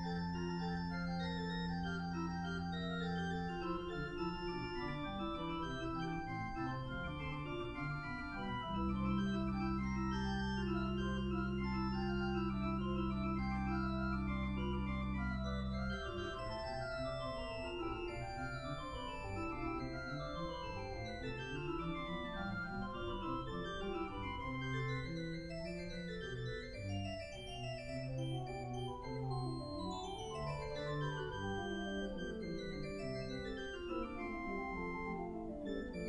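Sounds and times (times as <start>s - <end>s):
pipe organ playing baroque music: 0.0s - 36.0s.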